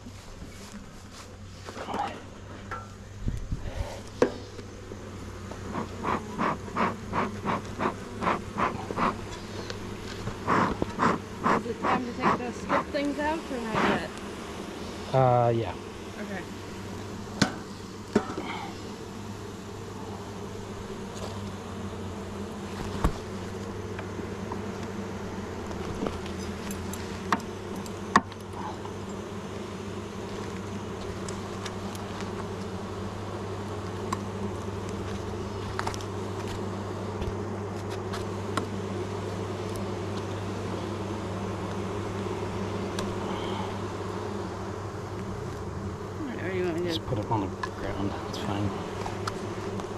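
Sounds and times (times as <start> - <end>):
honeybees buzzing: 0.0 - 49.9.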